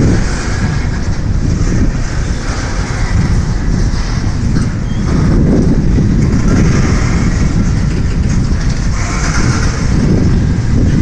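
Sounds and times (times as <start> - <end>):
freight train wheels on rails: 0.0 - 11.0.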